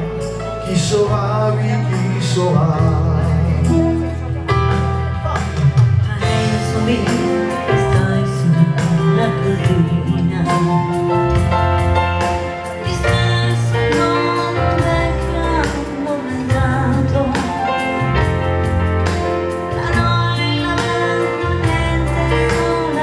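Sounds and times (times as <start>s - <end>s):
electronic keyboard: 0.0s - 23.0s.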